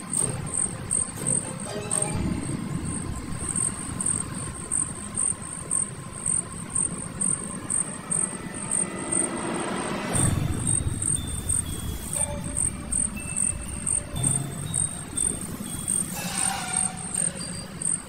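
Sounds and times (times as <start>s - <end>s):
insects chirping: 0.0s - 18.0s
low rumble: 2.0s - 17.9s
rising whine: 2.1s - 18.0s.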